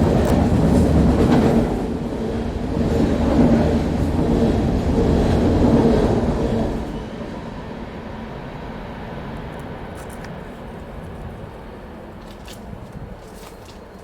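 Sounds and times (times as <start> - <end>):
train rumbling over bridge: 0.0 - 14.0.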